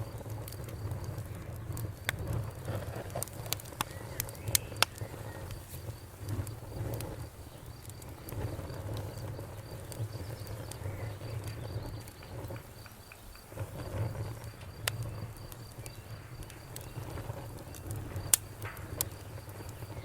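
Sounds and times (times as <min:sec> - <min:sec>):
crickets chirring: 0:00.0 - 0:20.0
low rumble of flames: 0:00.0 - 0:20.0
wood fire crackling and popping: 0:00.0 - 0:20.0.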